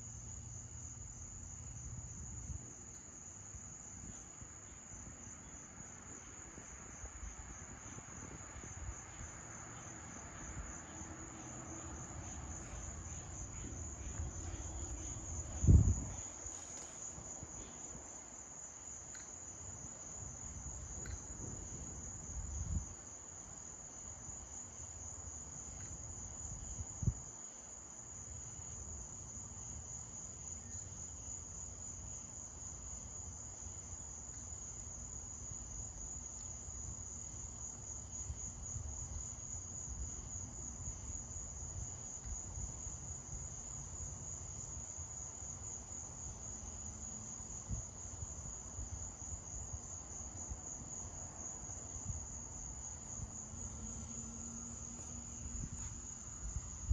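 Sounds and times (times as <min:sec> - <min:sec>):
night insects trilling: 0:00.0 - 0:56.9.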